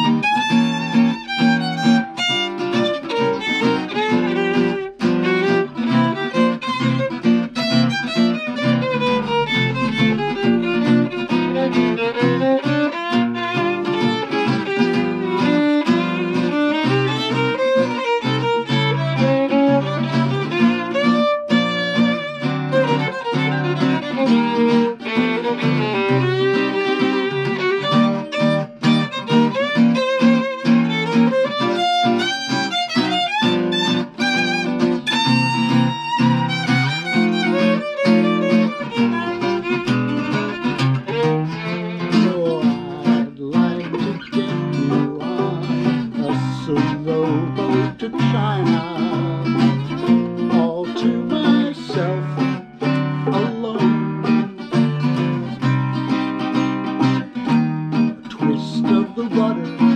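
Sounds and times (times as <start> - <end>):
acoustic guitar strumming chords: 0.0 - 59.9
violin melody with slides: 0.0 - 59.9.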